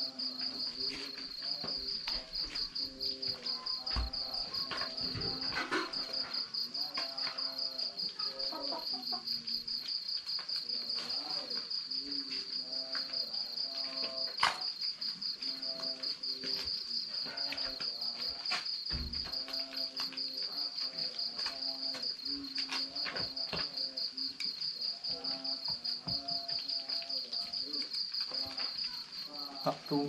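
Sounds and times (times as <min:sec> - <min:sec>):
cricket chirping: 0:00.0 - 0:30.0.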